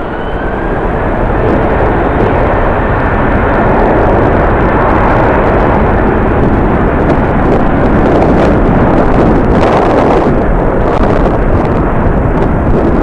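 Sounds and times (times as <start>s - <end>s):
jet engine noise: 0.0s - 13.0s
wind buffeting microphone: 0.0s - 13.0s.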